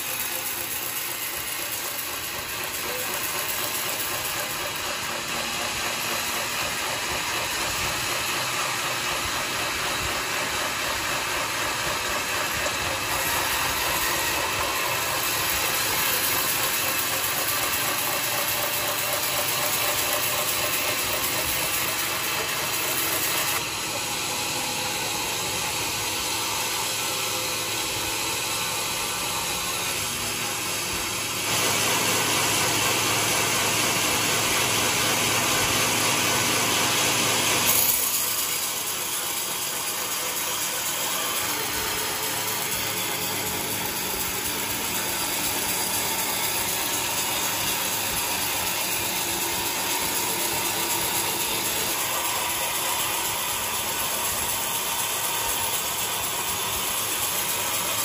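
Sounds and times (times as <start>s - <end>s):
sawmill machinery clattering: 0.0s - 58.0s.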